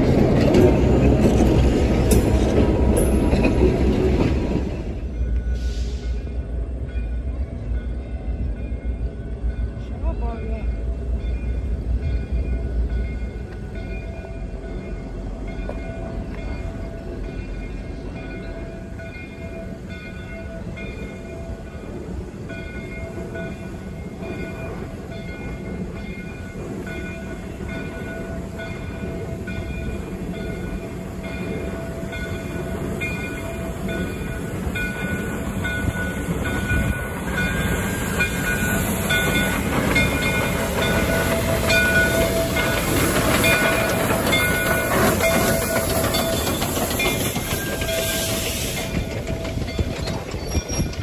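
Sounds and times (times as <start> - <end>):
train wheels clattering on rail joints: 0.0 - 9.1, 11.2 - 51.0
steam train rumble: 0.0 - 51.0
locomotive bell ringing: 5.0 - 51.0.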